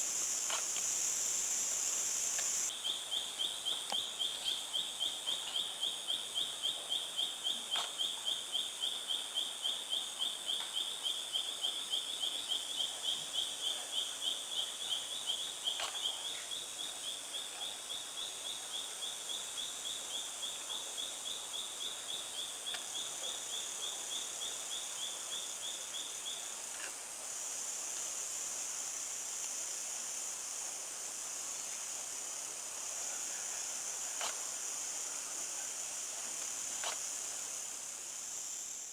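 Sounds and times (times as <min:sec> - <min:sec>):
steady high-pitched hiss: 0:00.0 - 0:38.9.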